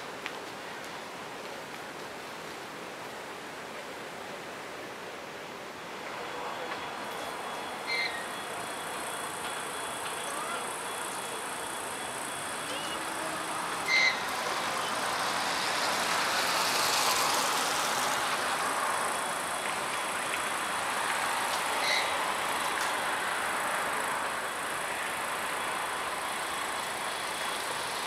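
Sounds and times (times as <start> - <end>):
train rushing through station: 0.1 - 28.0.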